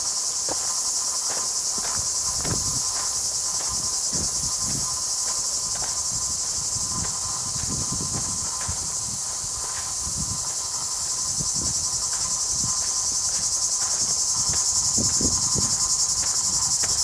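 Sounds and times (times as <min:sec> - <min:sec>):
cicadas buzzing: 0:00.0 - 0:17.0
footsteps on a trail: 0:00.0 - 0:17.0.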